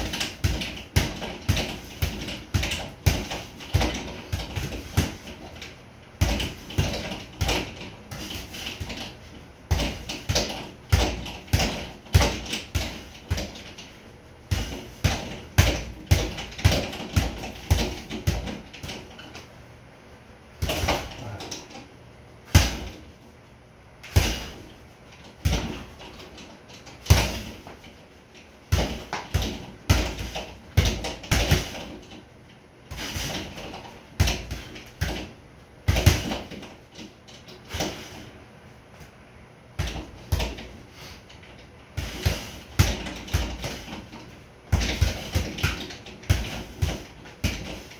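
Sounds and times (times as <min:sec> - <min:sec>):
gloves punching a bag: 0:00.0 - 0:19.4, 0:20.6 - 0:21.8, 0:22.4 - 0:23.1, 0:24.0 - 0:28.0, 0:28.7 - 0:32.3, 0:32.9 - 0:38.2, 0:39.8 - 0:47.9.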